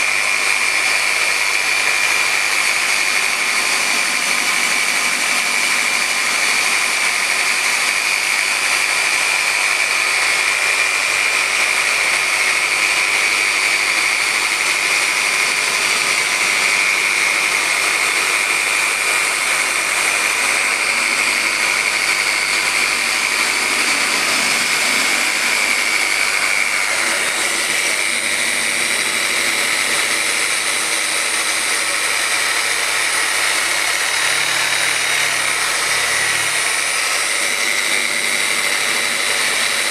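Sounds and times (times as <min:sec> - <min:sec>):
orbital polisher whining: 0:00.0 - 0:39.9.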